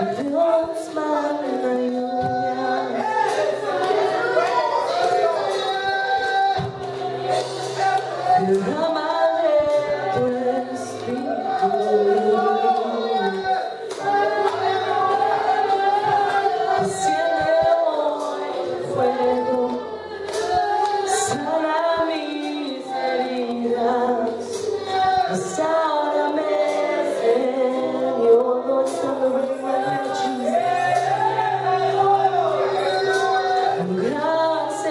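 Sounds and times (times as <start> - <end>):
congregation singing: 0.0 - 34.9.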